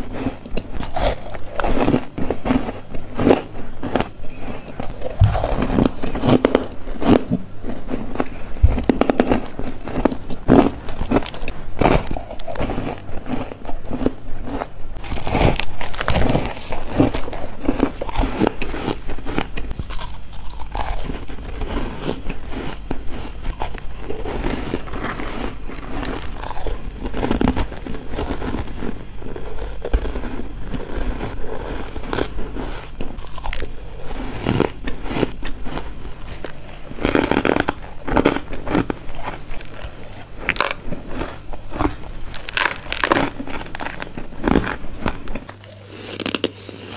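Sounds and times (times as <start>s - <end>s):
crunching frozen ice: 0.0s - 46.9s.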